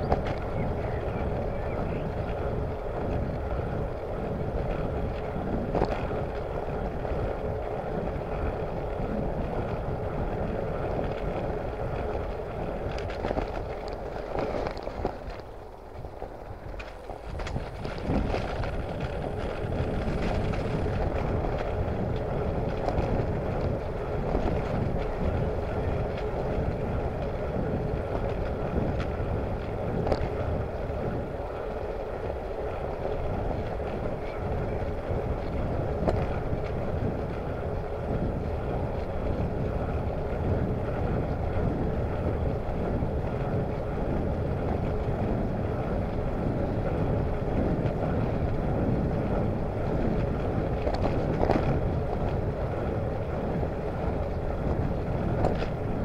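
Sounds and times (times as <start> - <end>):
tyres rumbling on tarmac: 0.0 - 56.0
wind noise on microphone: 0.0 - 56.0.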